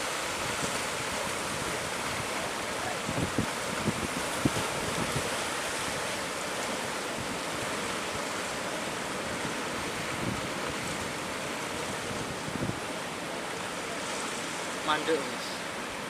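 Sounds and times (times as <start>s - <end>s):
wind on microphone: 0.0s - 13.0s
ocean surf breaking: 0.0s - 16.0s.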